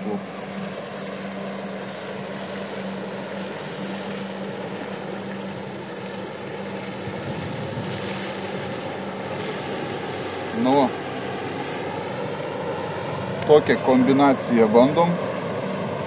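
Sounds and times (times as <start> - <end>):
barge engine drone: 0.0 - 16.0.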